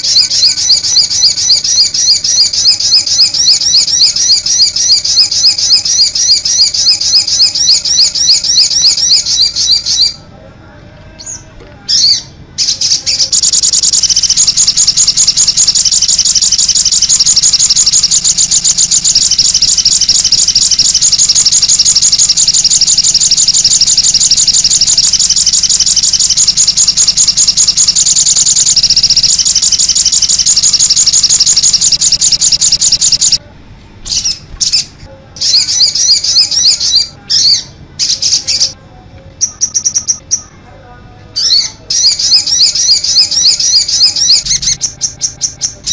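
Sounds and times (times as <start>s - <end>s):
bird singing a rapid trill: 0.0s - 10.2s, 11.2s - 33.4s, 34.1s - 38.8s, 39.4s - 40.6s, 41.4s - 45.9s.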